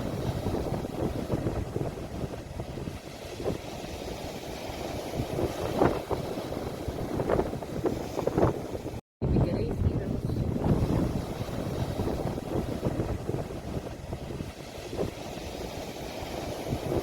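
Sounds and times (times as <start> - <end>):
waves breaking on shore: 0.0 - 17.0
wind on microphone: 0.0 - 17.0.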